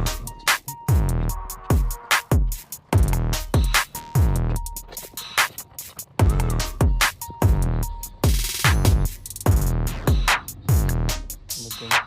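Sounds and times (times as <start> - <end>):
electronic music with drum-machine beat: 0.0 - 12.0.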